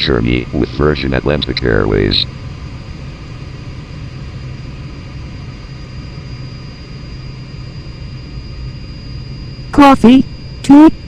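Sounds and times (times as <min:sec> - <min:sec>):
airliner cabin rumble: 0:00.0 - 0:09.7
high whine: 0:00.0 - 0:11.0.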